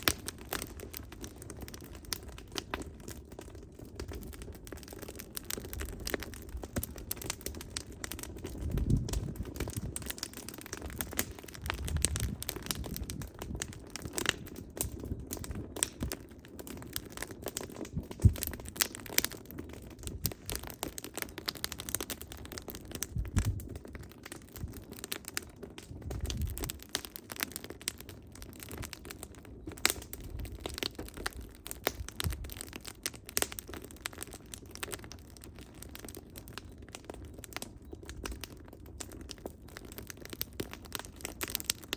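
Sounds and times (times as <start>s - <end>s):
firewood crackling and popping: 0.0s - 41.9s
low rumble of flame: 0.0s - 41.9s.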